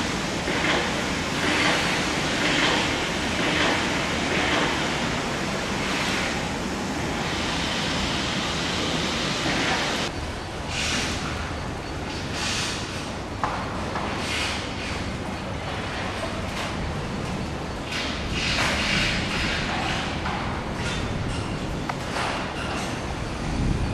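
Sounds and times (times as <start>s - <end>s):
freight train passing: 0.0s - 23.9s.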